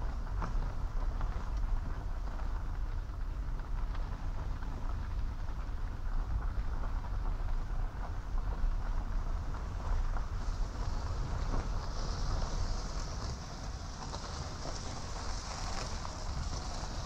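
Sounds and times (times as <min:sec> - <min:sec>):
car engine low drone: 0:00.0 - 0:17.0
tyres crunching on gravel: 0:00.2 - 0:17.0.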